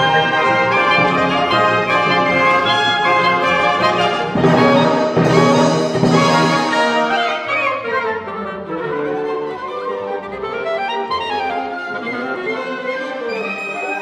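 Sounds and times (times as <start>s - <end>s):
orchestra playing classical music: 0.0s - 14.0s.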